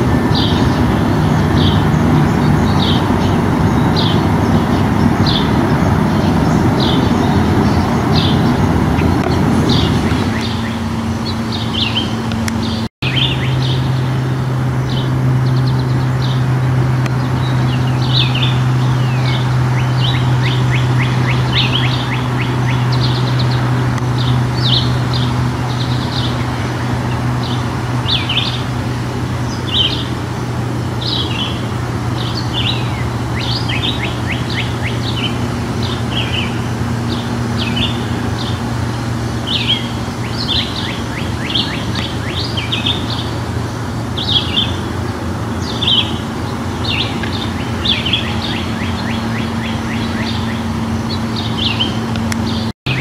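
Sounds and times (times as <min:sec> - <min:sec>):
songbirds chirping and singing: 0:00.0 - 0:53.0
steady low hum: 0:00.0 - 0:53.0.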